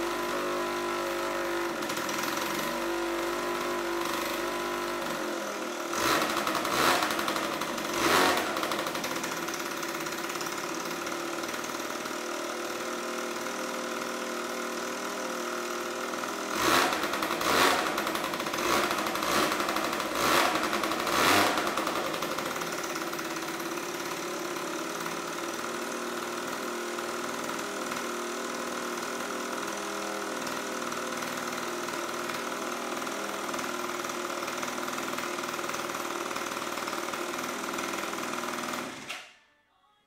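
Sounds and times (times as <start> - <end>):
scooter engine revving and idling: 0.0 - 39.3.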